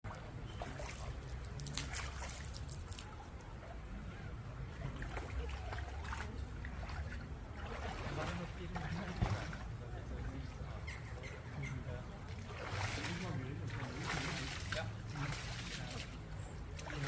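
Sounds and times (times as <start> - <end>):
water trickling and splashing: 0.0 - 17.0
faint voices: 2.7 - 17.0.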